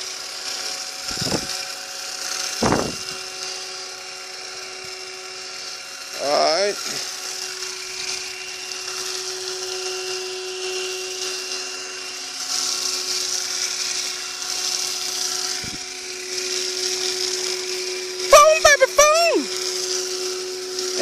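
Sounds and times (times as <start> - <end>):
pressure washer whine: 0.0 - 21.0.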